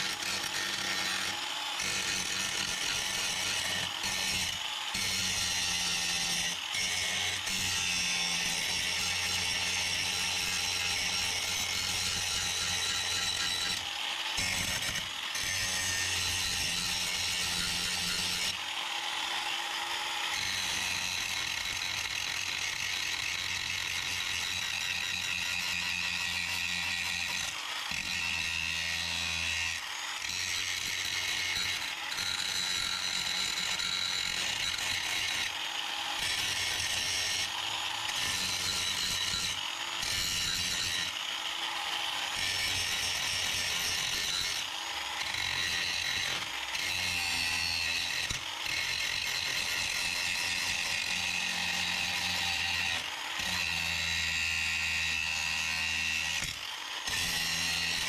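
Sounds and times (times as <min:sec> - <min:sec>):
angle grinder grinding steel: 0:00.0 - 0:58.0.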